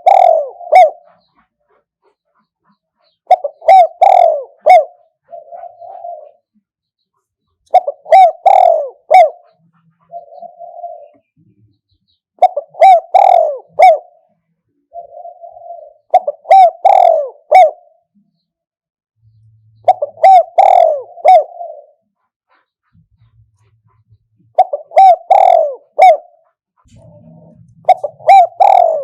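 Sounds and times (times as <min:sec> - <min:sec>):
dove cooing: 0:00.0 - 0:11.8, 0:12.4 - 0:18.4, 0:19.7 - 0:29.0.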